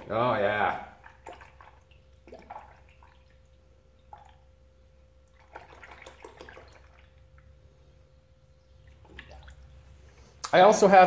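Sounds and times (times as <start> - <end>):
gurgles and splashes: 0.0 - 7.6, 8.7 - 10.1
liquid pouring into funnel: 0.0 - 7.7, 8.7 - 10.4.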